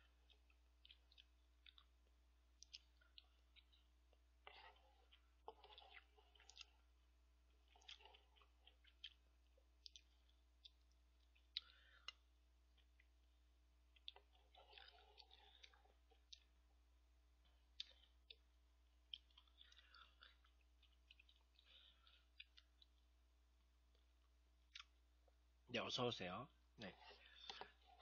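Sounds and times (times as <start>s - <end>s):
soft chewing: 0.0s - 25.6s, 26.5s - 28.0s.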